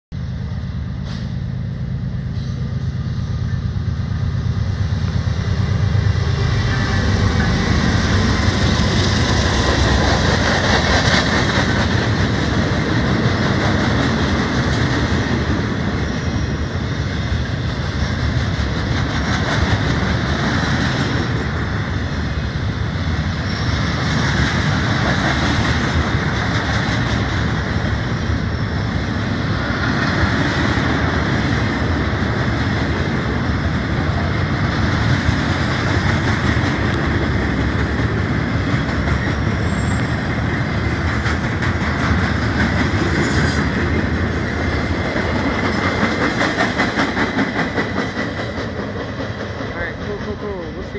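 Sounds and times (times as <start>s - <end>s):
diesel locomotive engines droning: 0.1s - 50.9s
train wheels rumbling on track: 0.1s - 50.9s.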